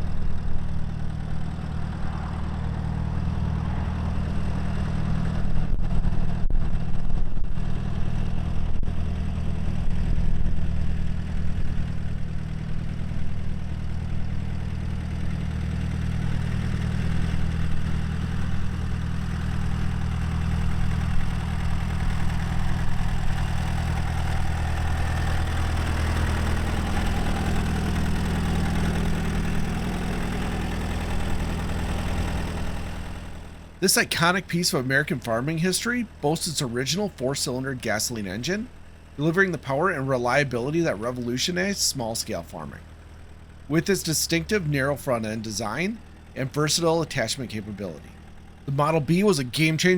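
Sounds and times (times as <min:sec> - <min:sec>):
tractor engine idling: 0:00.0 - 0:49.9.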